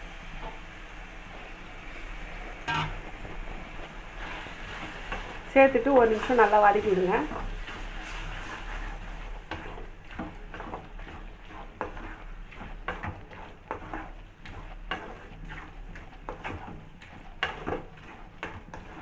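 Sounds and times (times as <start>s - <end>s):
light frying sizzle: 0.0s - 19.0s
utensil scraping and knocking pan: 2.7s - 3.6s, 4.2s - 19.0s.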